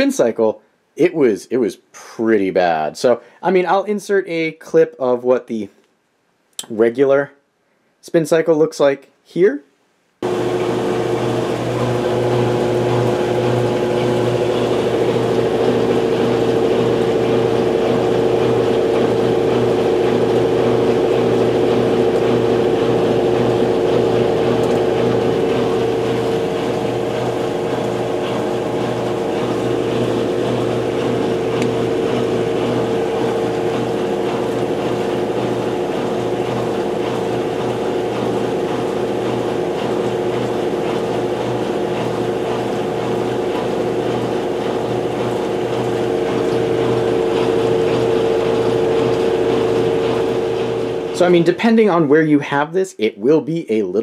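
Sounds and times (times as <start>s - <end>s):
washing machine spin hum: 10.2s - 54.0s.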